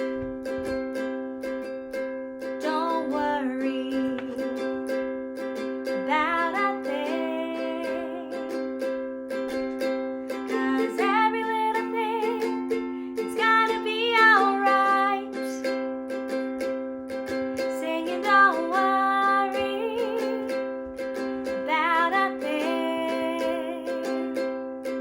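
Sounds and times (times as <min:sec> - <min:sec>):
ukulele strumming: 0:00.0 - 0:25.0.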